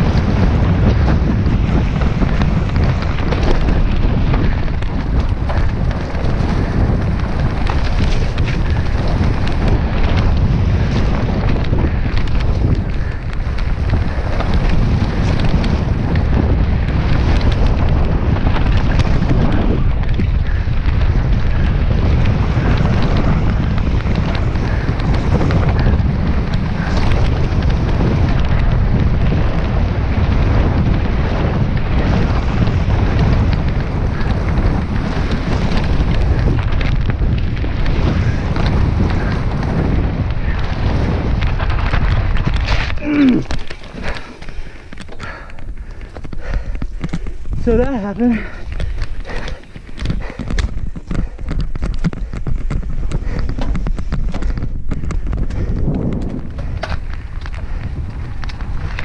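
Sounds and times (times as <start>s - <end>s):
bike knocks and rattles: 0.0s - 59.0s
mountain bike rumbling downhill: 0.0s - 59.0s
wind buffeting microphone: 0.0s - 59.0s.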